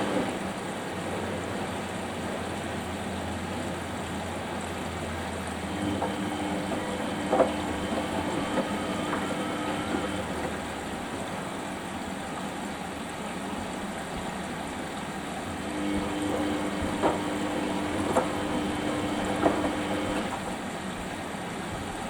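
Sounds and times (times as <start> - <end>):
motor hum: 0.0 - 21.7
washing machine drum sloshing water: 0.0 - 22.0.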